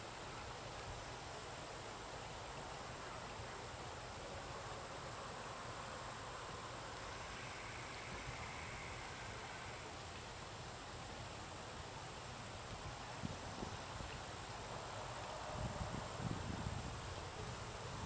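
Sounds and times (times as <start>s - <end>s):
even hiss: 0.0s - 18.0s.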